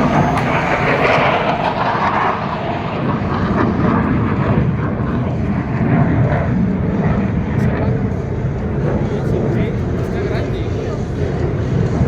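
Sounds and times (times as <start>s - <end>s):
fighter jets passing overhead: 0.0s - 12.0s.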